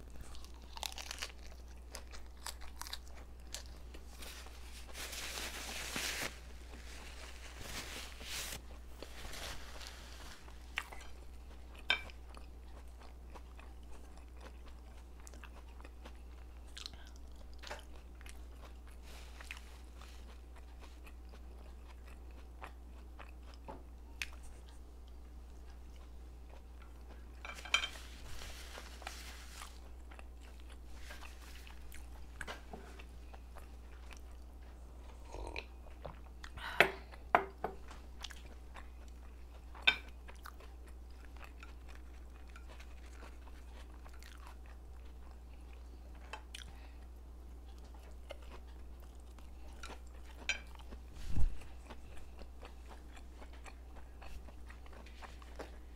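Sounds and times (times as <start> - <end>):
chewing and crunching food: 0.0 - 55.9
steady low hum: 0.0 - 55.9.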